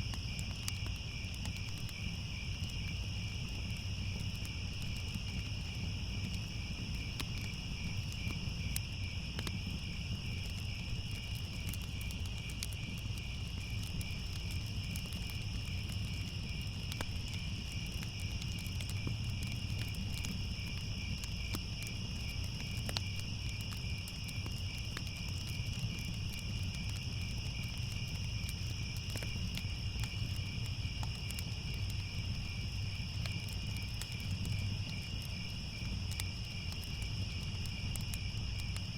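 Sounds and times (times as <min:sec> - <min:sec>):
crickets trilling: 0:00.0 - 0:38.9
faint crackles: 0:00.0 - 0:38.9.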